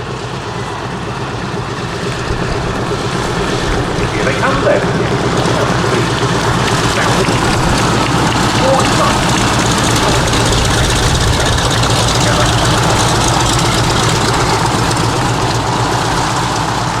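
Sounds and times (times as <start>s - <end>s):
radial piston aircraft engines running: 0.0s - 17.0s.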